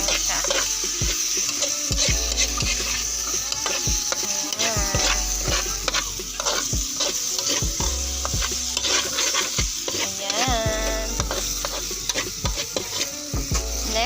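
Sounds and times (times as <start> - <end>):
meat sizzling in frying pan: 0.0 - 14.0
spatula scraping frying pan: 0.0 - 14.0.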